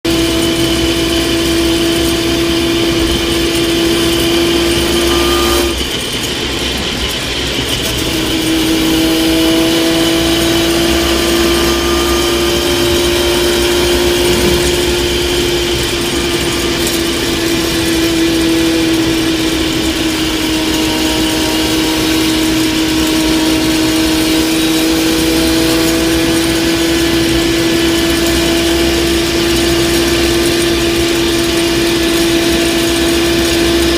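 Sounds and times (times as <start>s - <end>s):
vehicle running noise: 0.0s - 33.9s
transmission whining: 0.1s - 33.9s.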